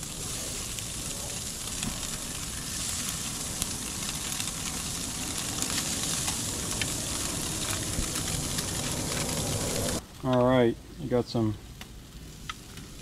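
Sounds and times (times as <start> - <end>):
small crackles: 0.0 - 10.6, 11.4 - 13.0
fish sizzling on a grill: 0.0 - 13.0.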